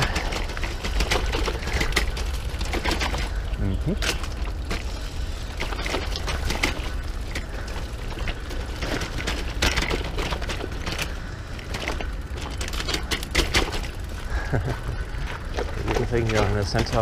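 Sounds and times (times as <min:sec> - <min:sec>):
bicycle rattling and knocking: 0:00.0 - 0:17.0
steady low rumble: 0:00.0 - 0:17.0.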